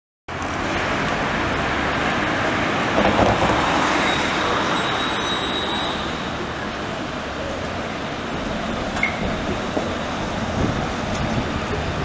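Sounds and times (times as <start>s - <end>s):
tyre and road noise: 0.3s - 12.0s.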